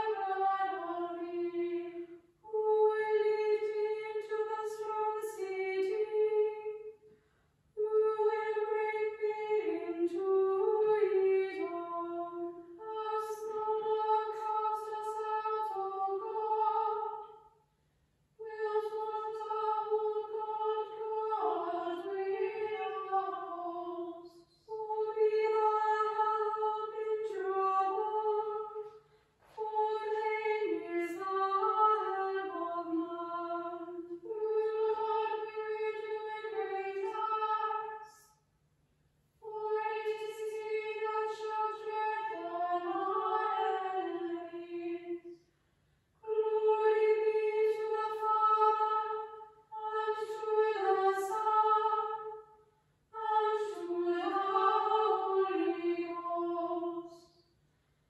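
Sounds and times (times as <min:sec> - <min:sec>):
female choir singing: 0:00.0 - 0:06.8, 0:07.8 - 0:17.4, 0:18.4 - 0:28.9, 0:29.5 - 0:38.2, 0:39.4 - 0:45.3, 0:46.2 - 0:52.5, 0:53.2 - 0:57.4.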